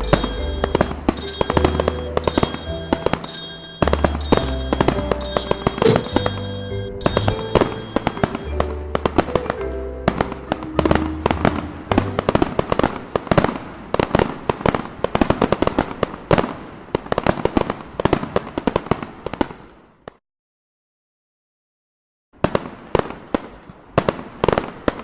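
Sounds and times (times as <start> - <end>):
fireworks exploding: 0.0 - 19.8, 22.4 - 25.0.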